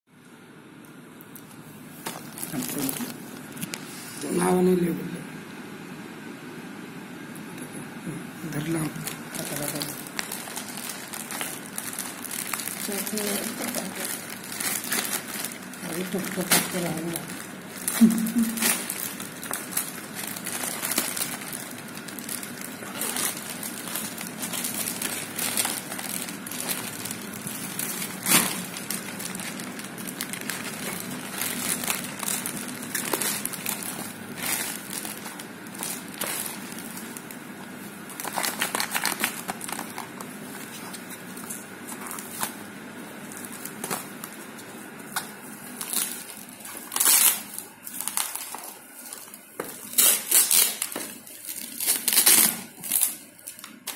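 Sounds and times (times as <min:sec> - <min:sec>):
plastic packaging crinkling: 0:00.8 - 0:04.6, 0:08.4 - 0:53.9.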